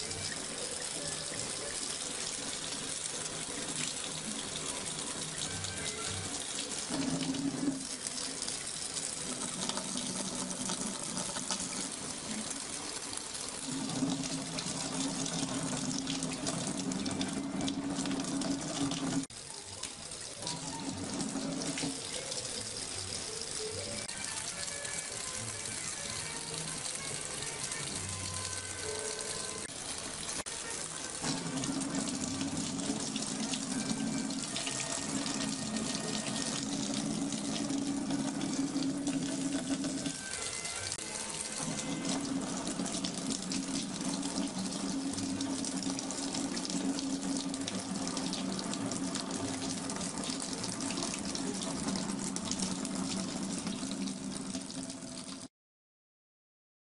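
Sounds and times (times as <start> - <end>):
water running: 0.0 - 55.5.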